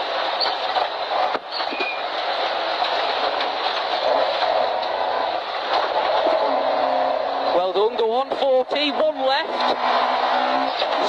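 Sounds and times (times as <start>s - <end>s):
gravel rattle and road noise: 0.0s - 11.0s
loud car engine: 0.0s - 11.0s.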